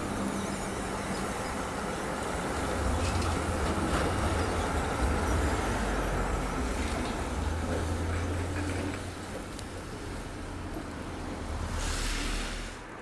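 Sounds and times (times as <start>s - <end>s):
tram passing: 0.0s - 13.0s.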